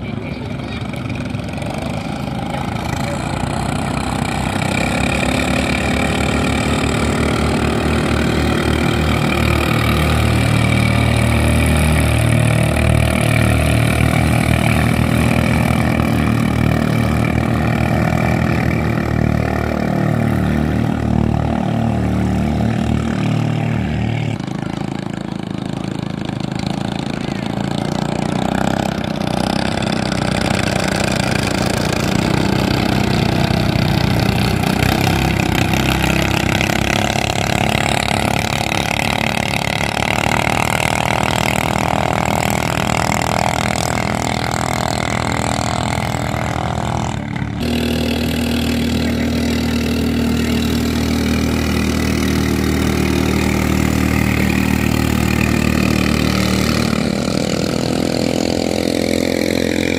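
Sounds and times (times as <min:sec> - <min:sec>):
boat engines running hard: 0:00.0 - 0:59.9.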